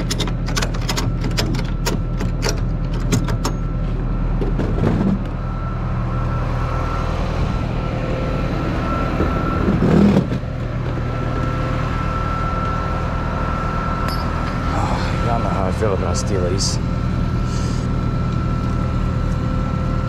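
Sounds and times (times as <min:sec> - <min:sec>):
truck engine running: 0:00.0 - 0:20.0
thin steady whine: 0:02.8 - 0:20.0.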